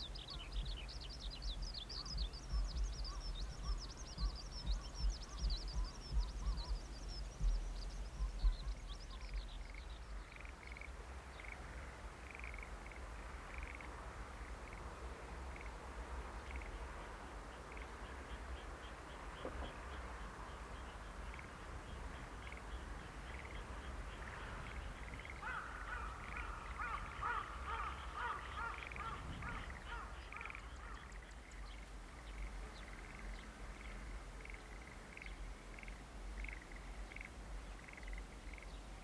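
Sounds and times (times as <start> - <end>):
steady low rumble: 0.0 - 38.9
frogs pulsing chorus: 2.0 - 14.9, 15.5 - 15.8, 16.4 - 16.8, 18.4 - 38.8.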